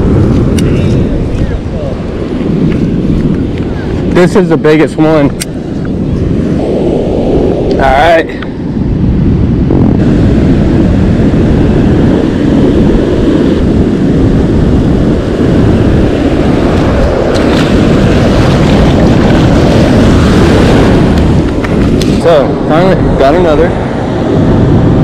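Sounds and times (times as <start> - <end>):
ocean surf washing up: 0.0 - 25.0
wind rumble on microphone: 0.0 - 25.0.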